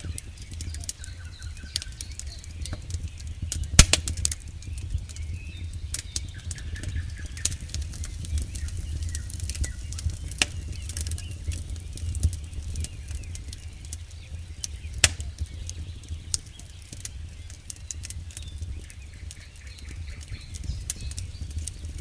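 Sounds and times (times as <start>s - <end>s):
burning wood popping: 0.0s - 22.0s
low rumble of flames: 0.0s - 22.0s.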